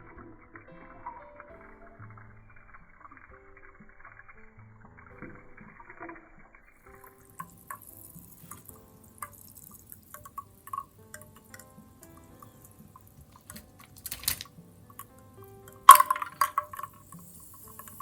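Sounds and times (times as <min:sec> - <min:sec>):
carbonated drink fizzing: 0:00.0 - 0:18.0.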